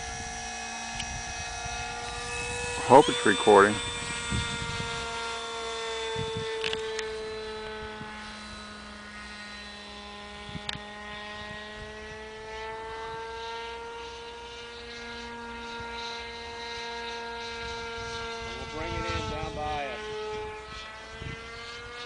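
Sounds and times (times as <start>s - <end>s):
model plane motor droning: 0.0s - 22.0s.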